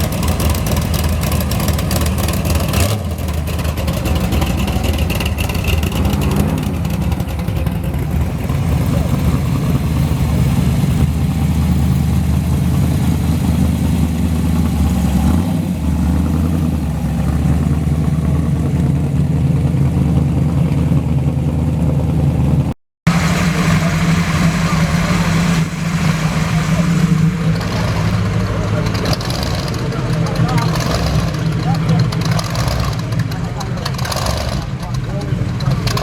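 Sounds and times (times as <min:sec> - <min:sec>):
car engines running at low speed: 0:00.0 - 0:36.0.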